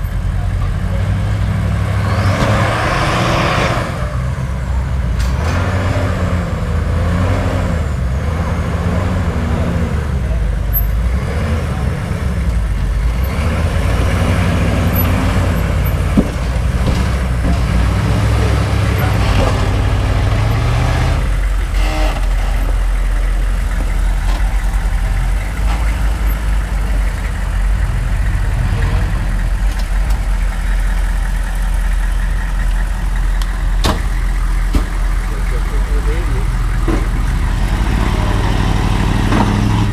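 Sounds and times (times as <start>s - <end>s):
engine working under load: 0.0s - 39.9s.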